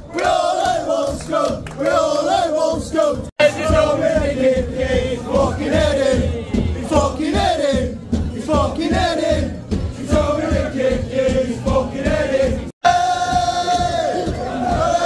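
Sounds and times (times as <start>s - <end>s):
crowd singing a chant: 0.1s - 15.0s.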